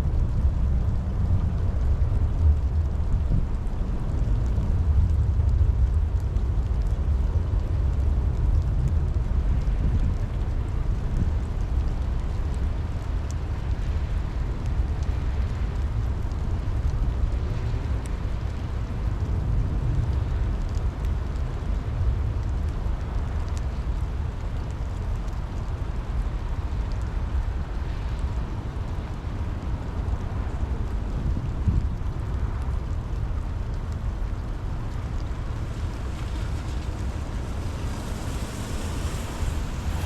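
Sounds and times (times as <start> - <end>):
deep rumble: 0.0 - 40.0
steady rain: 0.0 - 40.0.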